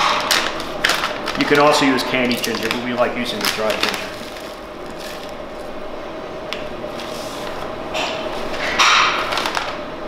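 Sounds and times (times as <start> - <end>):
paper packet rustling: 0.0 - 5.8, 6.9 - 7.7, 8.3 - 9.9.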